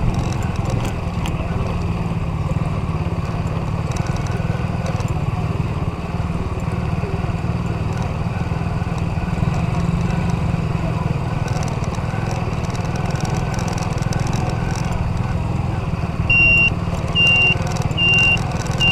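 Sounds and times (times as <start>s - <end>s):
atv engine running steadily: 0.0s - 18.9s.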